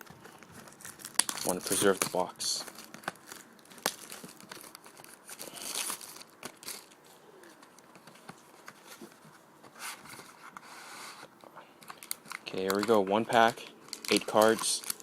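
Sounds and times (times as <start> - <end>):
packaging crinkling and tearing: 0.0 - 9.0, 11.8 - 15.0.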